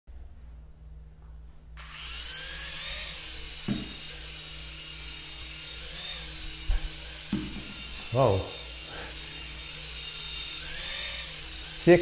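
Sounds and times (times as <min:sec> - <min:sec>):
toy helicopter motor whirring: 0:01.8 - 0:12.0.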